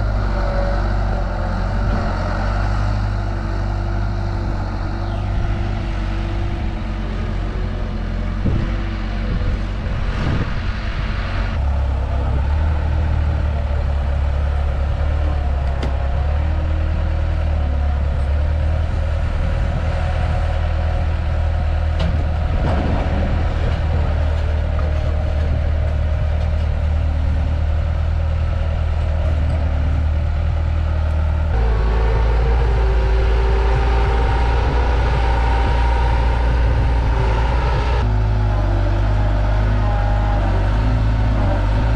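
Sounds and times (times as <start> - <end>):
diesel engine running under work: 0.0 - 41.9.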